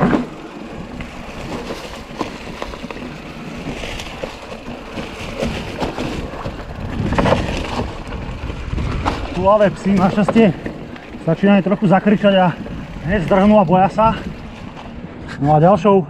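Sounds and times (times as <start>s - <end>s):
bike knocks and rattles: 0.0s - 15.3s
wind on microphone: 0.0s - 15.4s
bike tyres on dirt trail: 0.0s - 16.0s.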